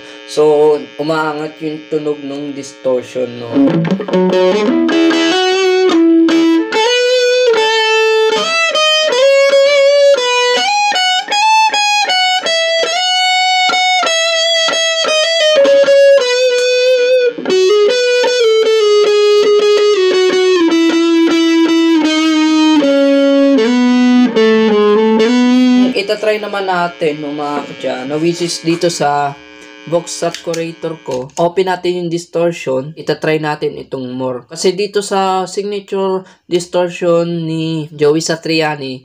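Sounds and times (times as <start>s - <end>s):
distorted electric guitar melody: 0.0s - 32.4s.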